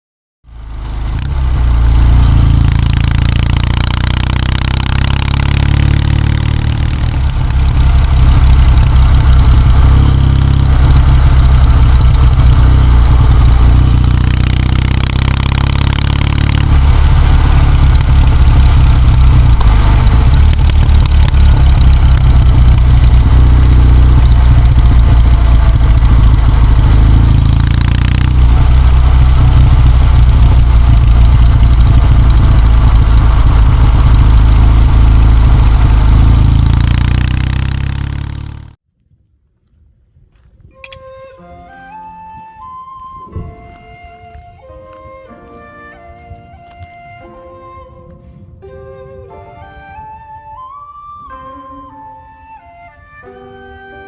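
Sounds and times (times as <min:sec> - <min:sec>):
motorcycle engine rumbling: 0:00.4 - 0:54.0.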